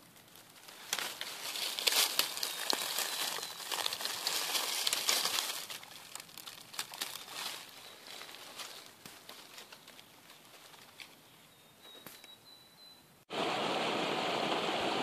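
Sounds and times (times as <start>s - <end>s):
dry leaves crinkling: 0.0s - 12.2s.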